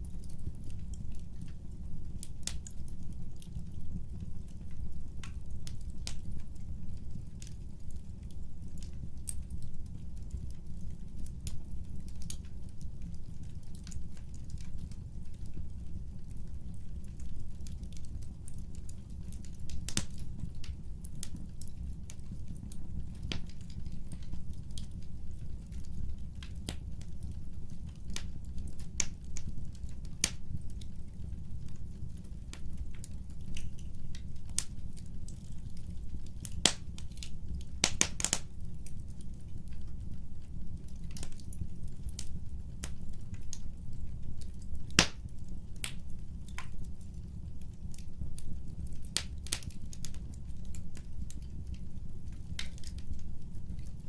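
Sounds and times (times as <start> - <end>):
logs crackling and popping: 0.0 - 54.0
low rumble of flame: 0.0 - 54.0.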